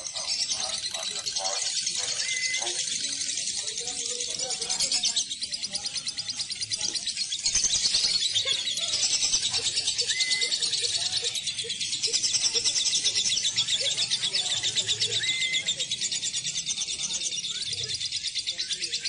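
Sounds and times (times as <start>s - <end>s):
lovebirds chattering shrilly: 0.0s - 19.0s.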